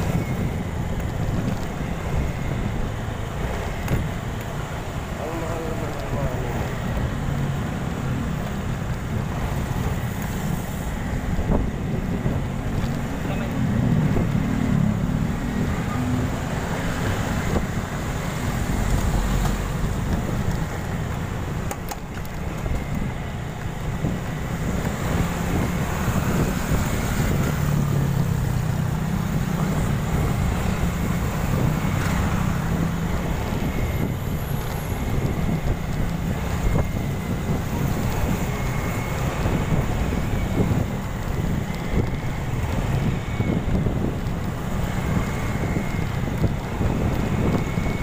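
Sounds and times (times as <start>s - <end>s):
road noise: 0.0s - 48.0s
wind buffeting microphone: 0.0s - 48.0s.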